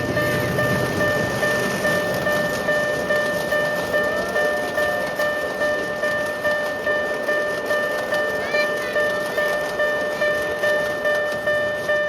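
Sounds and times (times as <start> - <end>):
level-crossing warning bell ringing: 0.0 - 12.0.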